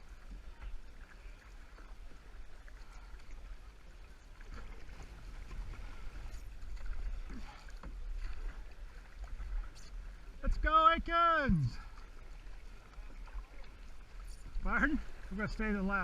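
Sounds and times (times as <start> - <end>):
paddles splashing in water: 0.0 - 16.0.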